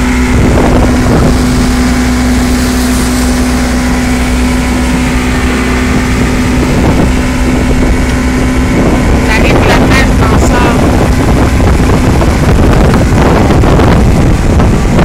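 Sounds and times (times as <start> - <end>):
motorboat engine drone: 0.0 - 15.0
wind and water rushing: 0.0 - 15.0.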